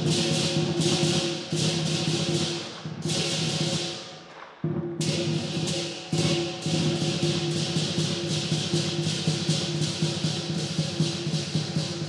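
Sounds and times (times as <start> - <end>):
big drum beating: 0.0 - 4.0, 4.6 - 12.0
cymbals clashing: 0.0 - 12.0.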